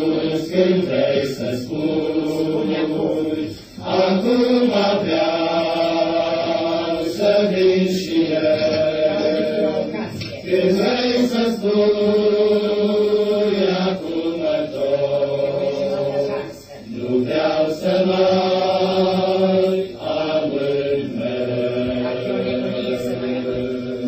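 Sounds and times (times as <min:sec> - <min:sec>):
men's choir singing a hymn: 0:00.0 - 0:24.0.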